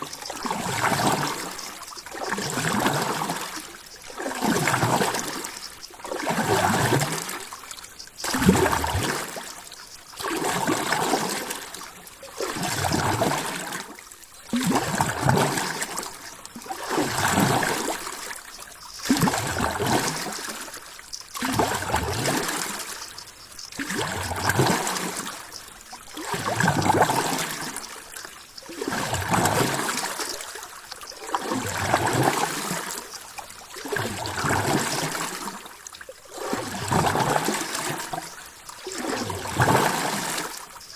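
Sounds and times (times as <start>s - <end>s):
water splashing rhythmically: 0.0s - 40.9s.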